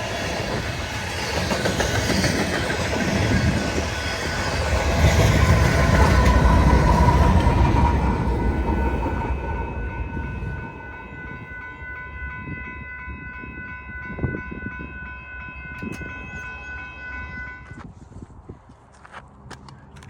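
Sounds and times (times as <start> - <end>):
steady chord of high tones: 0.0 - 17.9
train rumbling past: 0.0 - 18.4.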